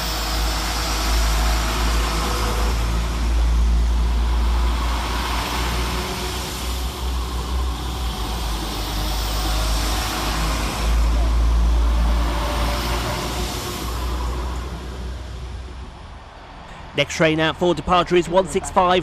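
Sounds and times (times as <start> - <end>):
diesel train engines rumbling: 0.0 - 19.0.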